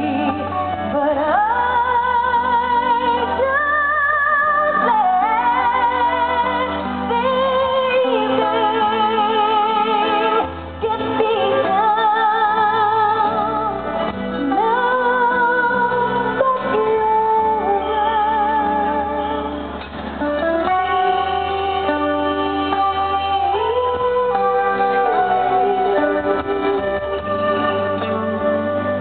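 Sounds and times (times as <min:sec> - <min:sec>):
band playing: 0:00.0 - 0:29.0
woman singing into a microphone: 0:00.0 - 0:29.0.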